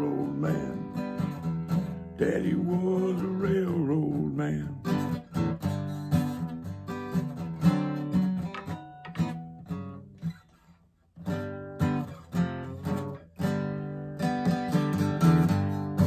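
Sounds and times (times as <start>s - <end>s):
acoustic guitar strumming chords: 0.0s - 10.4s, 11.2s - 16.0s.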